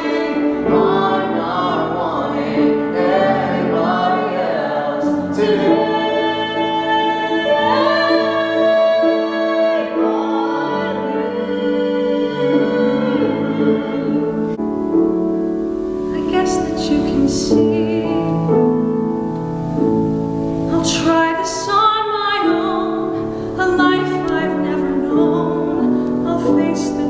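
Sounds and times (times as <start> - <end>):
woman singing opera: 0.0 - 14.6, 16.0 - 18.6, 20.7 - 27.0
grand piano: 0.0 - 27.0.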